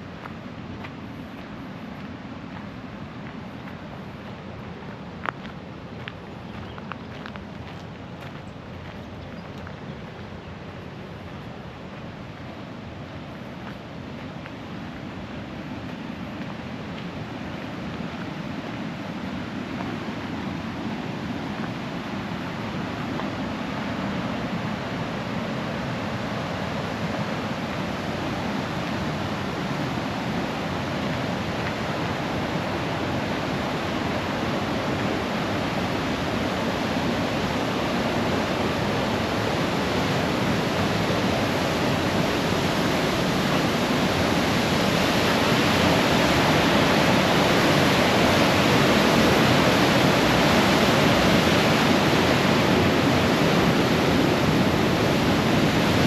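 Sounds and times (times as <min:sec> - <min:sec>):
rushing river water: 0:00.0 - 0:56.0.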